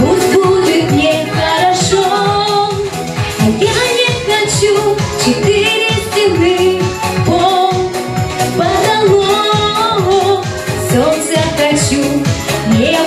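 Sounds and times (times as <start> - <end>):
instrumental accompaniment with beat: 0.0 - 13.0
woman singing pop song: 0.0 - 13.0.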